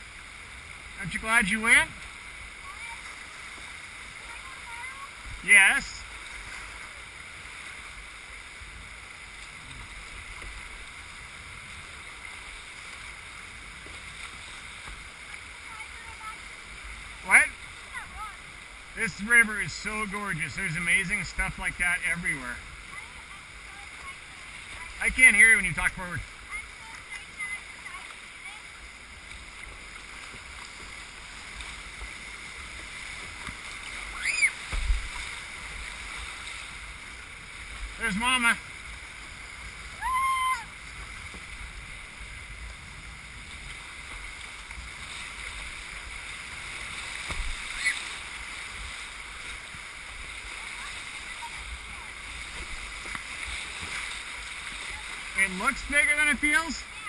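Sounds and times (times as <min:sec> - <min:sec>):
paddle splashing: 0:00.0 - 0:57.0
river water rushing: 0:00.0 - 0:57.0.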